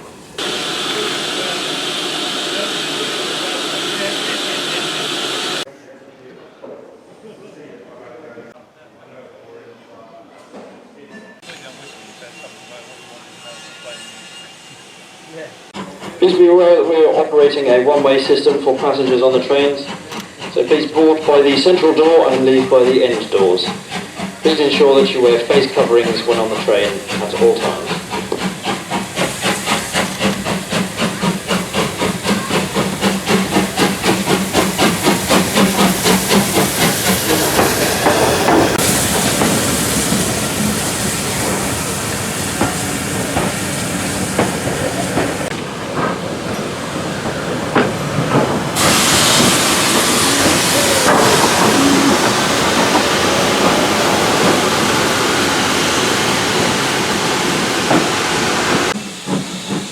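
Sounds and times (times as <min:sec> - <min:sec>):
steam hissing loudly: 0:00.0 - 0:05.7, 0:11.4 - 0:59.9
steam locomotive exhaust beats: 0:00.0 - 0:05.7, 0:15.7 - 0:59.9.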